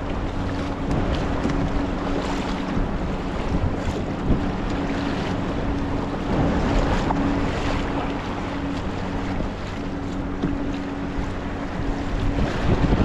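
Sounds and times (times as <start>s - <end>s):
electric boat motor humming: 0.0s - 13.0s
water rushing along hull: 0.0s - 13.0s
wind on microphone: 0.0s - 13.0s.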